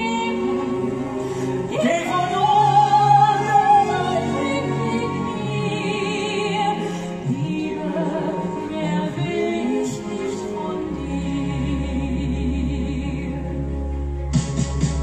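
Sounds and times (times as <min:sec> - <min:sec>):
operatic singing with vibrato: 0:00.0 - 0:15.0
steady musical accompaniment: 0:00.0 - 0:15.0.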